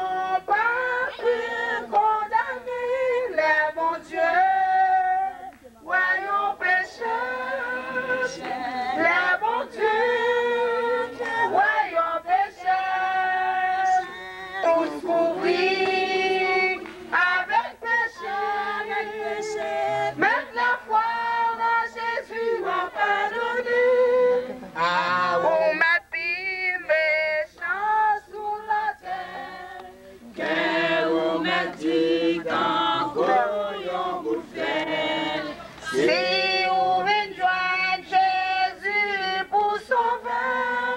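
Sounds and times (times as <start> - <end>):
group singing a hymn: 0.0 - 40.9
woman singing through megaphone: 0.0 - 40.9.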